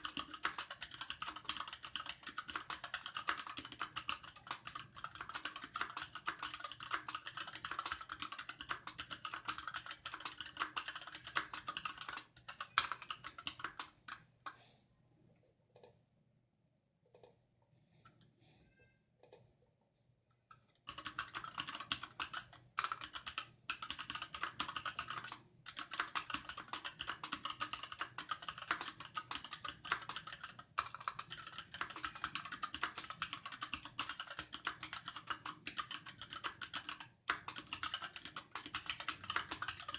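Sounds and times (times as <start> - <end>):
fast typing on mechanical keyboard: 0.0 - 14.2, 20.9 - 39.9.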